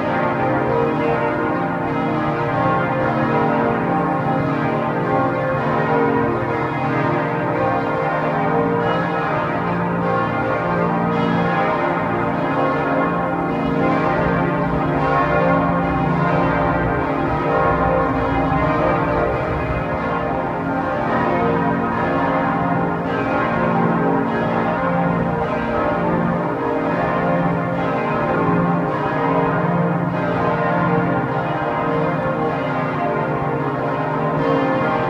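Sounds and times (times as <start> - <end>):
church bells pealing: 0.0 - 35.0.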